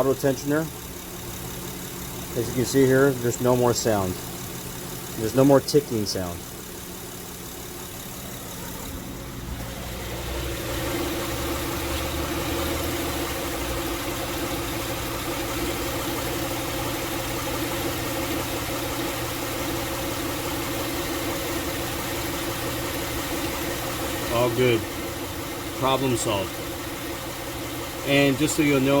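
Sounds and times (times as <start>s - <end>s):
car engine running under load: 0.0s - 29.0s.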